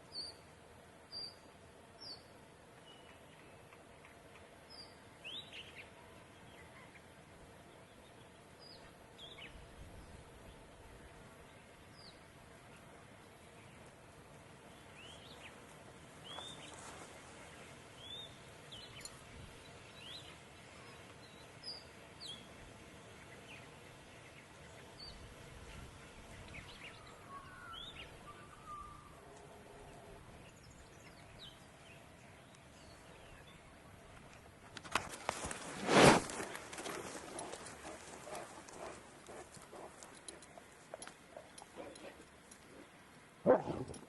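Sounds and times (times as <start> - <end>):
outdoor background noise: 0.0 - 44.0
small birds chirping: 1.1 - 34.4, 36.4 - 44.0.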